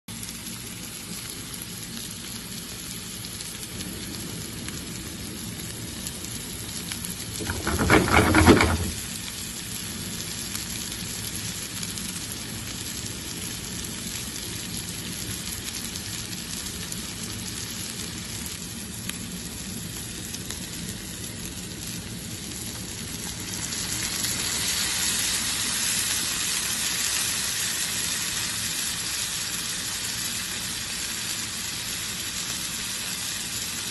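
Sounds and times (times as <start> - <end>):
food sizzling in a pan: 0.1 - 33.9.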